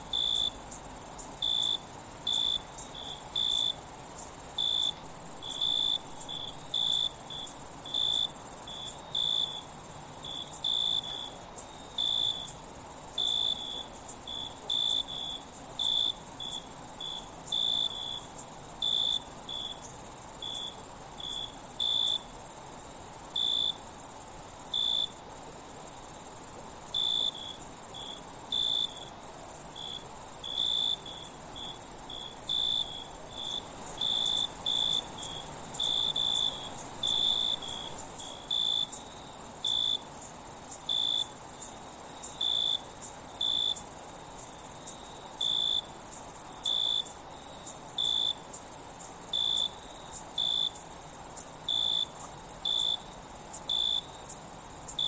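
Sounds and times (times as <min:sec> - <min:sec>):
crickets chirping: 0:00.0 - 0:55.0
high-pitched insect trill: 0:00.0 - 0:55.0.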